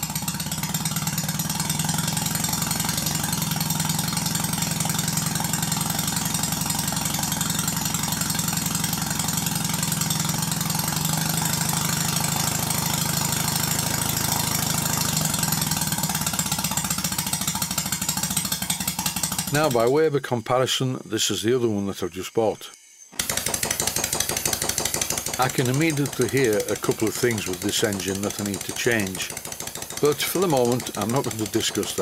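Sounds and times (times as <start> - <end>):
model steam engine running: 0.0 - 20.2, 22.8 - 32.0.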